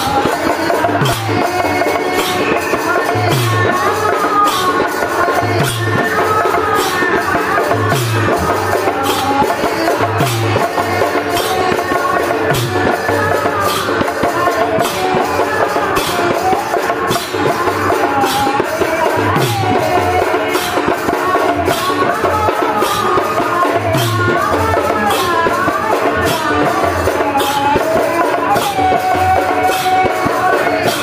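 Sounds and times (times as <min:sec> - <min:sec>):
group singing: 0:00.0 - 0:31.0.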